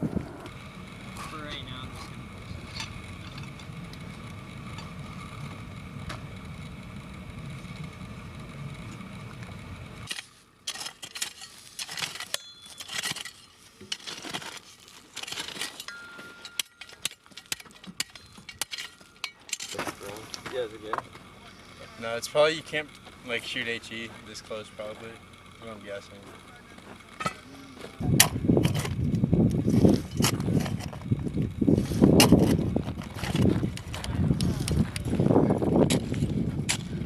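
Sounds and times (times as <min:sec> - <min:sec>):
low rumble of wind or engine: 0:00.0 - 0:12.2, 0:16.5 - 0:37.0.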